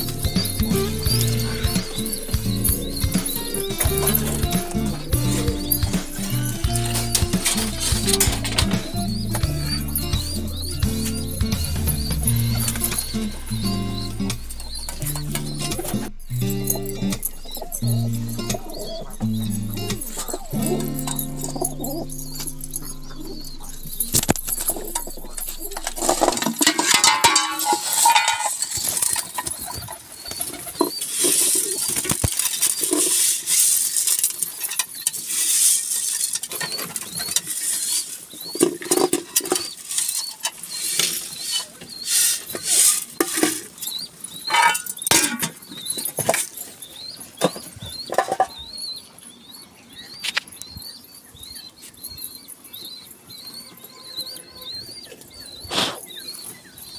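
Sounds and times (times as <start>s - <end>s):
birds pattering on ground: 0.0s - 56.9s.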